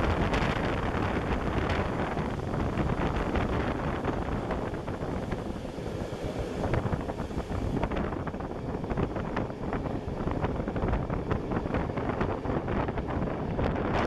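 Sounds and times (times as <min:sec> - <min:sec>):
train running noise: 0:00.0 - 0:14.0
wind buffeting microphone: 0:00.0 - 0:14.0.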